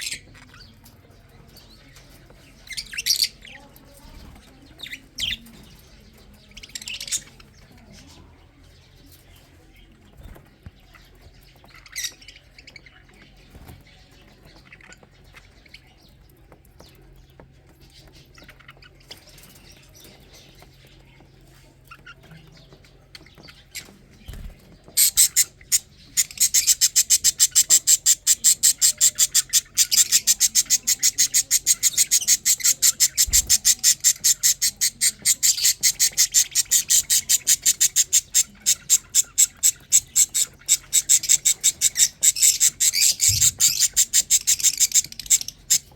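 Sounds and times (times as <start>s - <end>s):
bird chicks cheeping: 0.0s - 45.9s.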